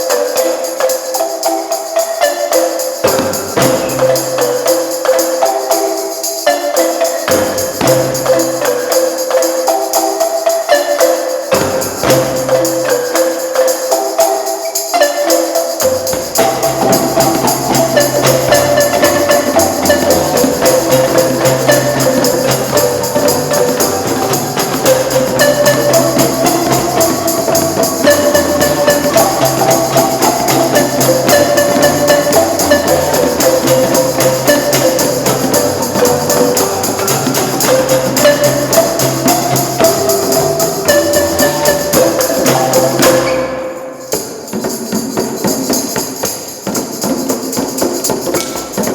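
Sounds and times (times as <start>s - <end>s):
low bass marimba notes: 0.0s - 44.1s
jingling percussion: 0.0s - 48.9s
marimba ensemble playing: 0.0s - 48.9s.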